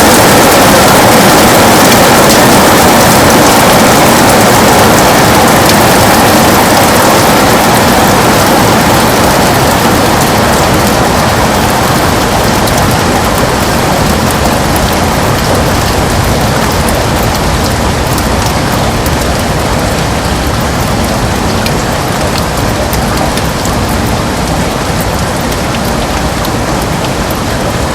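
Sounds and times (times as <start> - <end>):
heavy rain on a window: 0.0 - 27.9.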